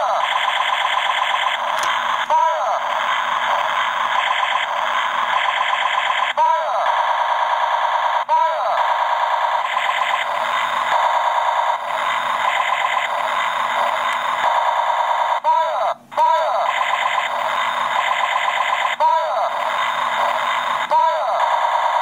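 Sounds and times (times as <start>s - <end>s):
rapid electronic rattle: 0.0s - 15.4s, 16.6s - 22.0s.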